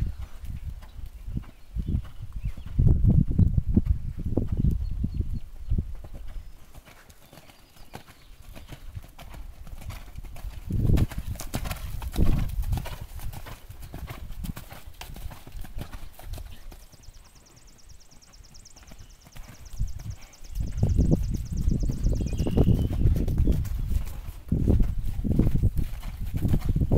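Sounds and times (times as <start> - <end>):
horse hooves cantering on sand: 0.0 - 26.9.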